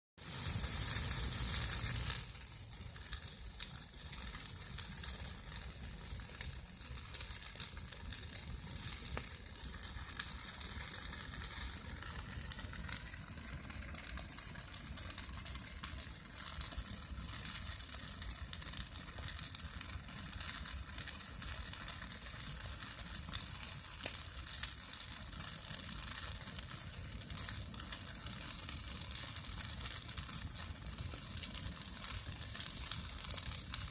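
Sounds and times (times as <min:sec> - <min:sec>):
bonfire crackling and hissing: 0:00.2 - 0:33.9.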